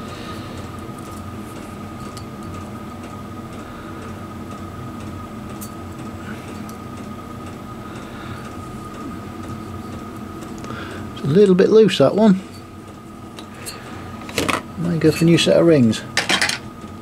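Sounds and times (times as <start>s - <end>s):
constant high whine: 0.0s - 17.0s
steady background hum: 0.0s - 17.0s.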